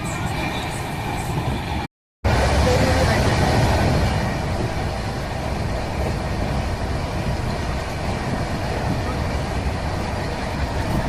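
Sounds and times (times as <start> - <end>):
train rumble from inside coach: 0.0 - 11.0.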